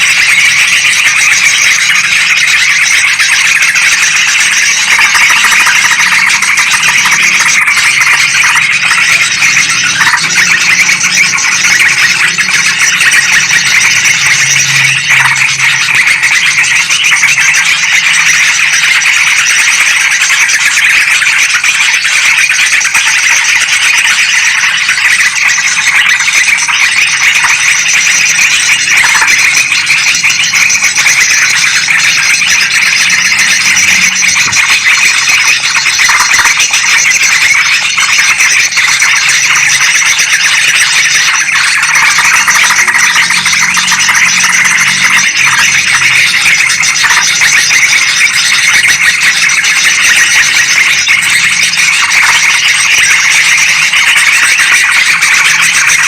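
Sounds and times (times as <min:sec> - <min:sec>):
birds chattering and calling: 0:00.0 - 0:55.7.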